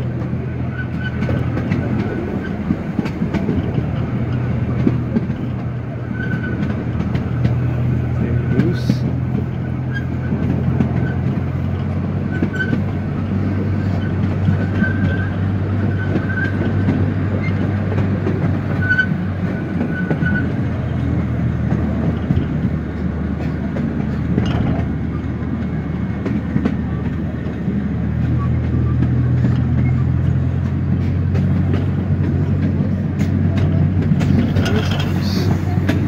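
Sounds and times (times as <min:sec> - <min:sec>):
small train rumbling on track: 0:00.0 - 0:36.0
wheels clicking over rails: 0:00.0 - 0:36.0.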